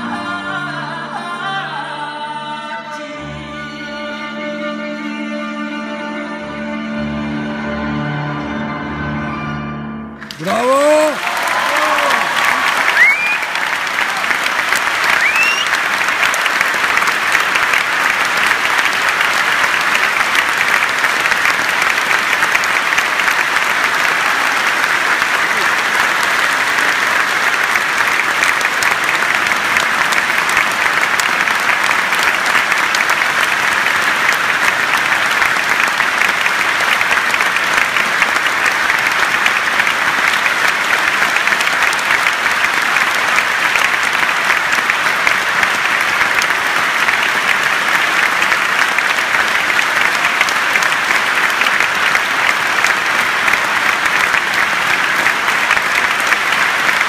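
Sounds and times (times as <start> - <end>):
audience applauding: 10.2 - 57.0.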